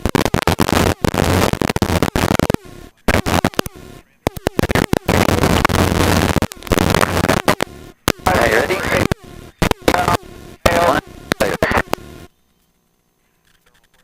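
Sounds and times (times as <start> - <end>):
harsh static intercom noise: 0.0 - 12.4
low hum: 0.0 - 13.7.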